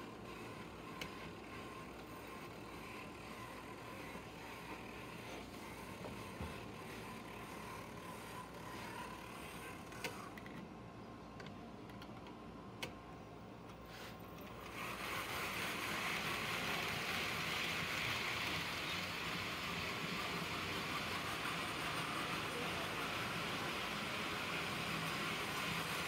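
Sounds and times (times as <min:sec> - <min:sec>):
model trains whirring on track: 0:00.0 - 0:10.6, 0:13.8 - 0:26.0.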